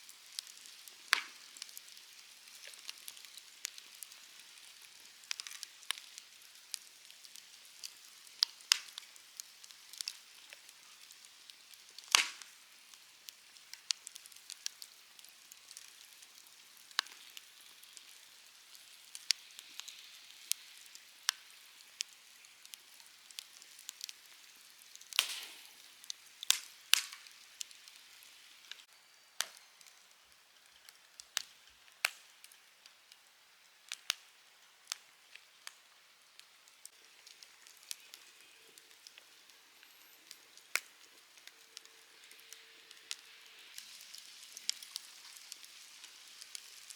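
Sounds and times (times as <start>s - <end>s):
campfire crackling and popping: 0.0s - 46.9s
soft fire hiss: 0.0s - 46.9s.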